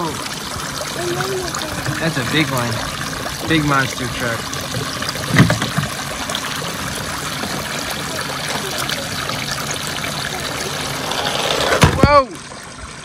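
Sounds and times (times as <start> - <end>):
water trickling into plastic basin: 0.0 - 11.2.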